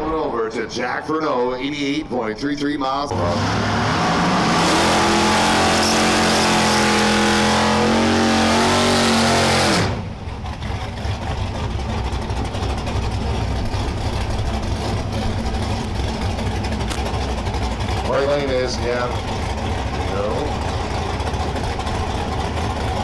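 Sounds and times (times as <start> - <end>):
engine idling rough: 0.0 - 23.0.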